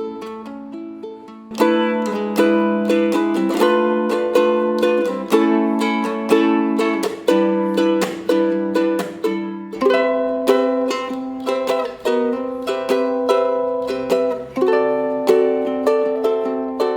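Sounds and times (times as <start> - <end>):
ukulele strumming chords: 0.0 - 16.9.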